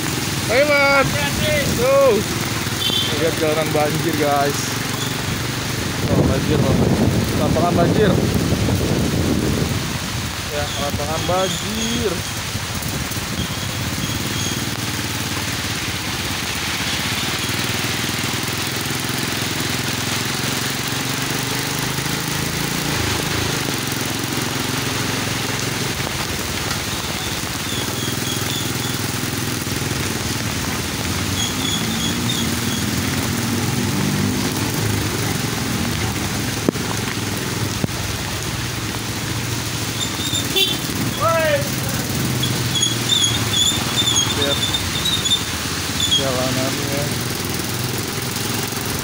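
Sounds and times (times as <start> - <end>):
heavy rain hiss: 0.0 - 49.0.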